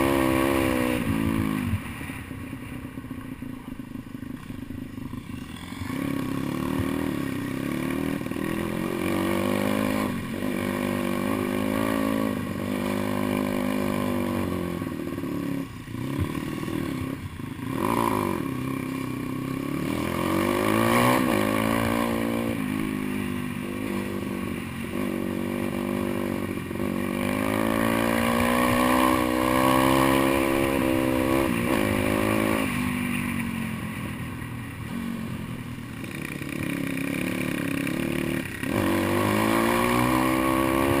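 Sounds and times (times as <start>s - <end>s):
motorbike engine revving: 0.0s - 2.2s, 4.2s - 41.0s.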